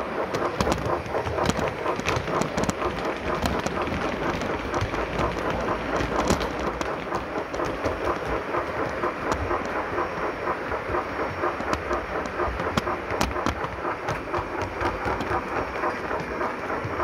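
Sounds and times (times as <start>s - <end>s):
clicks over rail joints: 0.0s - 17.0s
model train wheels rolling: 0.0s - 17.0s
subdued steam sound: 0.0s - 17.0s.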